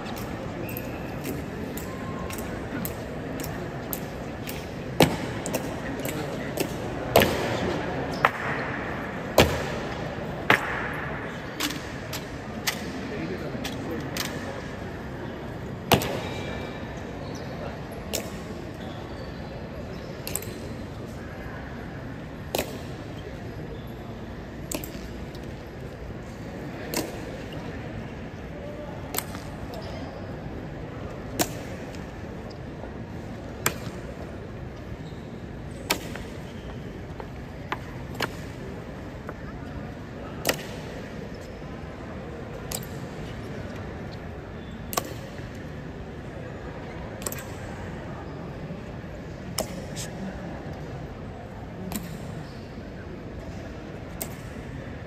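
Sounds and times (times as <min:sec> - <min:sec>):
steady background hum: 0:00.0 - 0:55.0
steady low background noise: 0:00.0 - 0:55.0.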